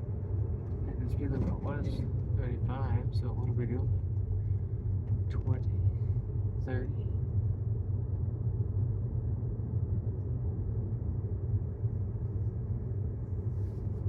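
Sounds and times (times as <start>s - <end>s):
road and tyre rumble in car: 0.0s - 14.0s.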